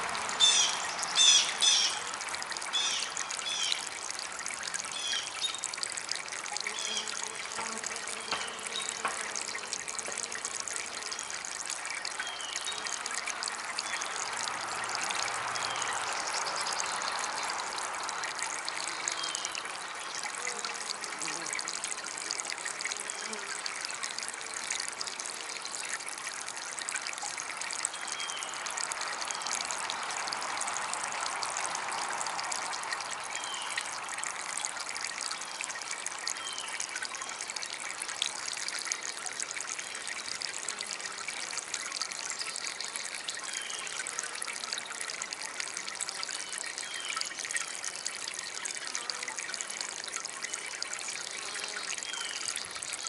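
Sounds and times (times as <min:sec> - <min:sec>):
fountain water trickling: 0:00.0 - 0:53.0.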